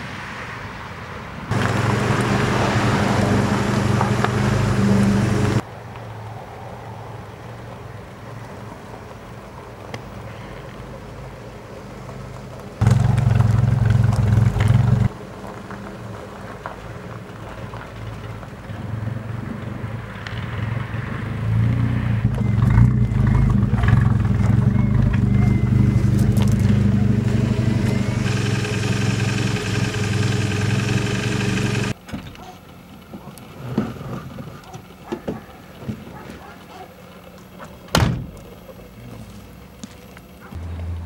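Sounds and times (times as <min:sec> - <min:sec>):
car engine humming: 0:01.5 - 0:05.7, 0:10.9 - 0:41.0.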